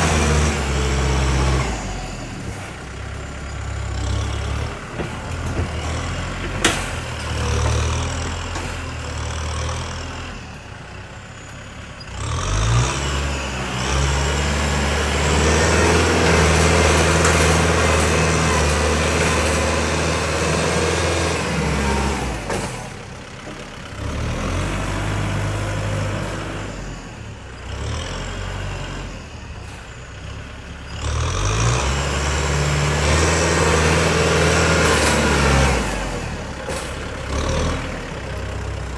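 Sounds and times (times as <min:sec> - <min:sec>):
heavy diesel machinery engines: 0:00.0 - 0:38.9.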